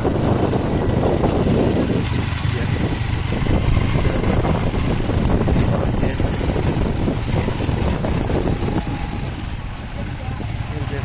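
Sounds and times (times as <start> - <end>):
motor vehicle rumble: 0.0 - 11.0
wind buffeting microphone: 0.0 - 11.0.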